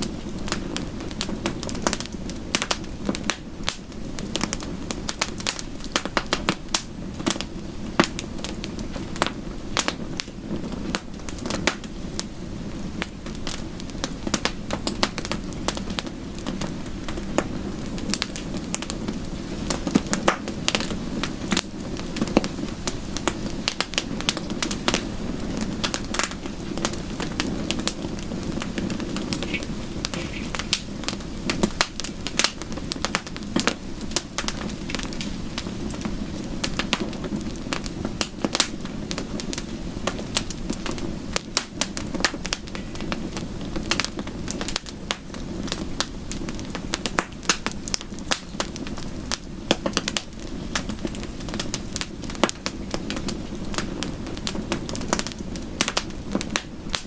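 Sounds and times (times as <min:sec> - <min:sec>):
low rushing of fire: 0:00.0 - 0:57.0
wood fire crackling and popping: 0:00.0 - 0:57.0.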